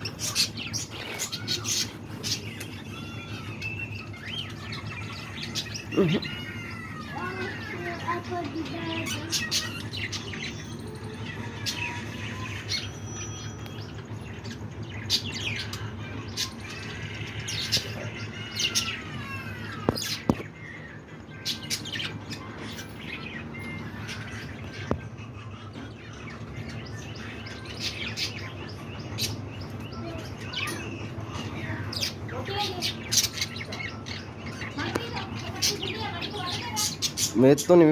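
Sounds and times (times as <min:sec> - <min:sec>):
budgerigars chirping: 0:00.0 - 0:20.4, 0:21.3 - 0:37.9
steady low hum: 0:00.0 - 0:37.8.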